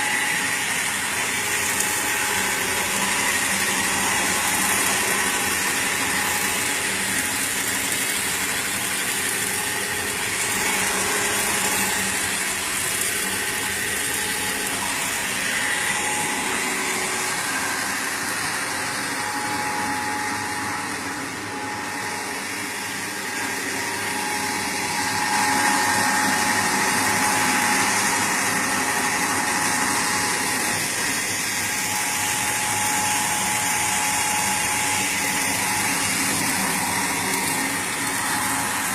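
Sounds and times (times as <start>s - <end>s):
machine drone and hiss: 0.0s - 38.9s
thin steady whine: 0.0s - 38.9s.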